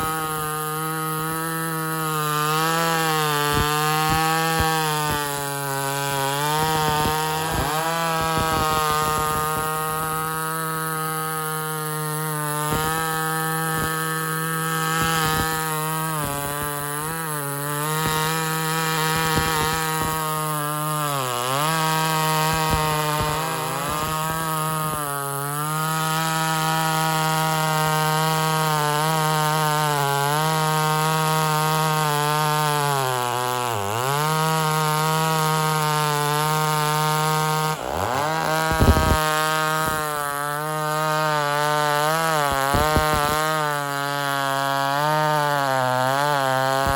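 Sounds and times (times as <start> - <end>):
chainsaw at high revs: 0.0 - 46.9.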